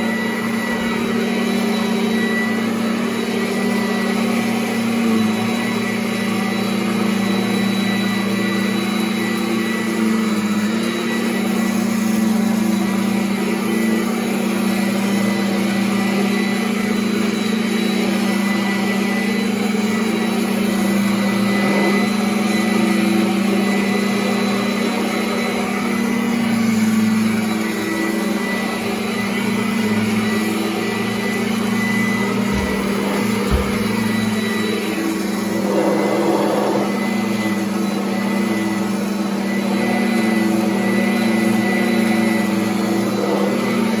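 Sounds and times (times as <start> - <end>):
vacuum cleaner running on carpet: 0.0 - 44.0.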